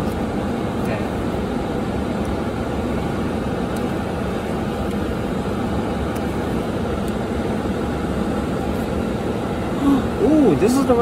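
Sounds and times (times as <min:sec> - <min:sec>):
car cabin engine and fan hum: 0:00.0 - 0:11.0.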